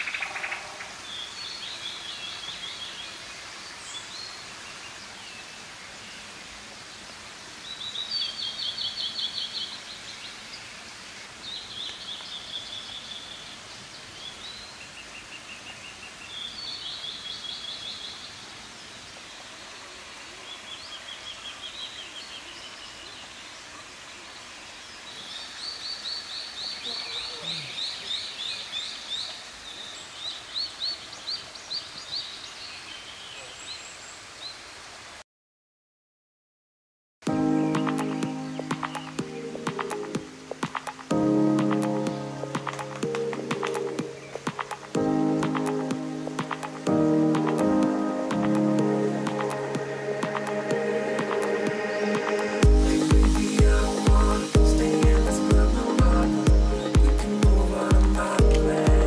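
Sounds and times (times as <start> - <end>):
steady background hiss: 0.0 - 35.2, 37.3 - 59.0.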